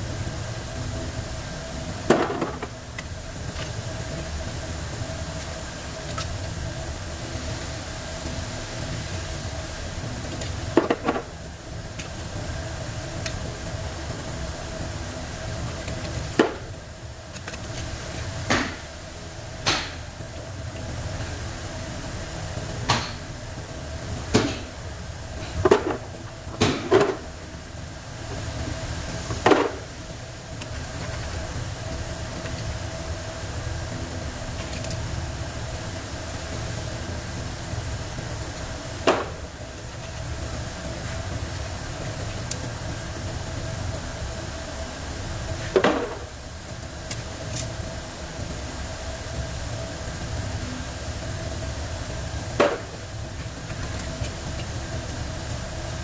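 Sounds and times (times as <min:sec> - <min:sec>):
steady hum with low rumble: 0:00.0 - 0:56.0.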